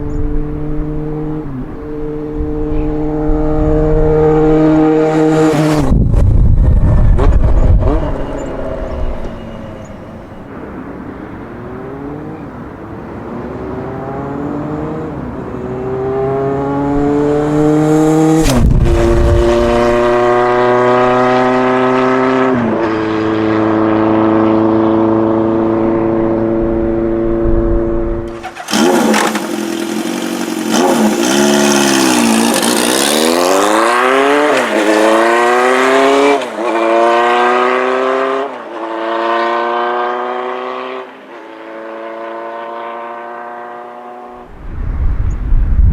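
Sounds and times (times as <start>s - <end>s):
motorcycle engine accelerating: 0.0s - 10.5s, 11.1s - 45.9s.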